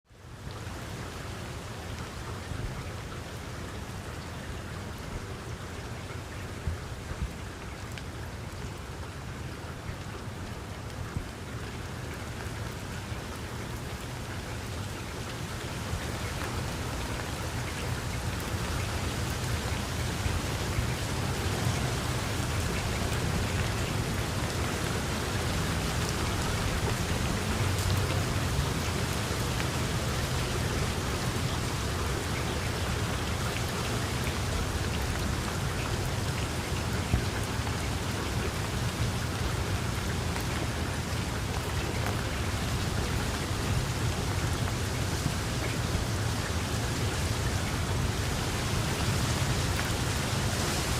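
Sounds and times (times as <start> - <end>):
heavy rain pouring: 0.1 - 50.9.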